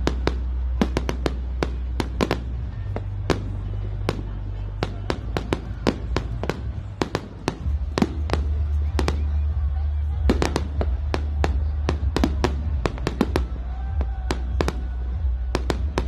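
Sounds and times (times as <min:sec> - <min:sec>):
fireworks bangs and crackles: 0:00.0 - 0:16.0
music with deep bass: 0:00.0 - 0:16.0.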